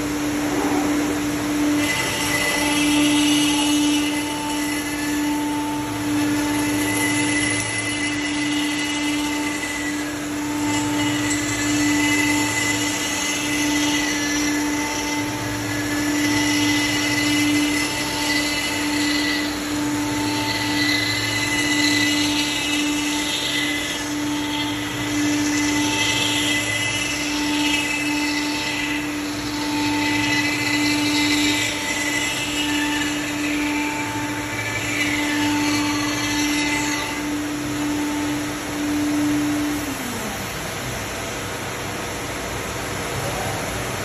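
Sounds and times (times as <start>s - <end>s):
router bit cutting wood: 0.0s - 42.8s
router spindle whine: 0.0s - 44.0s.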